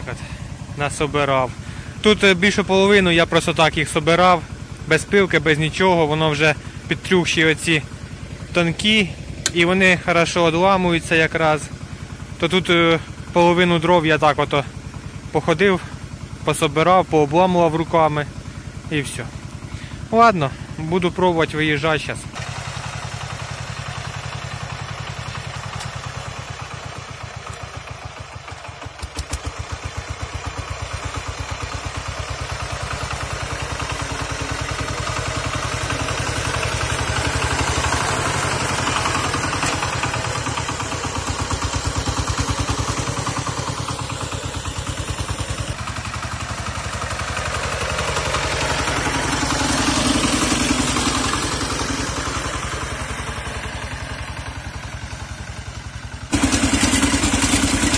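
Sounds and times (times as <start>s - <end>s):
diesel engine knocking: 0.0s - 57.9s.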